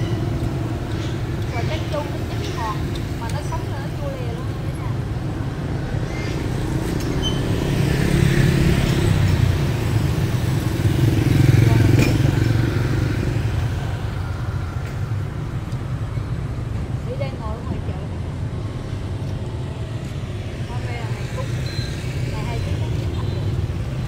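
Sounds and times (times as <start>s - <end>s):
motorbikes passing: 0.0s - 24.0s
steady traffic hum: 0.0s - 24.0s.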